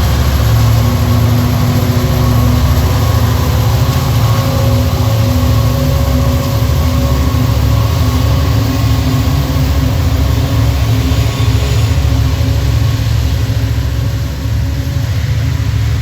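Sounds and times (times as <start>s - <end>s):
deep locomotive engine drone: 0.0s - 16.0s.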